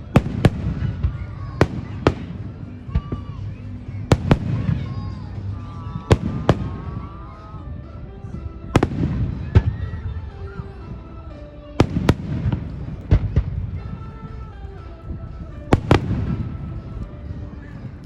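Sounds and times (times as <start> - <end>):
fireworks bangs: 0.0 - 10.8, 11.8 - 18.0
rumble of fireworks bursts: 0.0 - 18.0.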